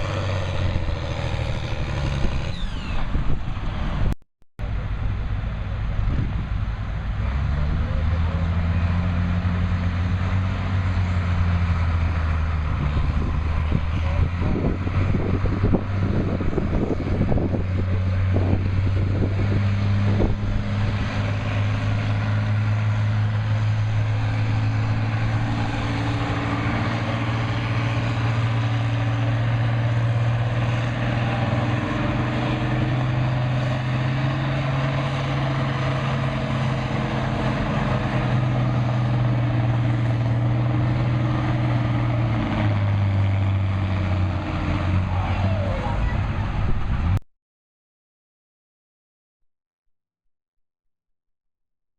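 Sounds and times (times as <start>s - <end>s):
tractor diesel engine running hard: 0.0s - 47.2s.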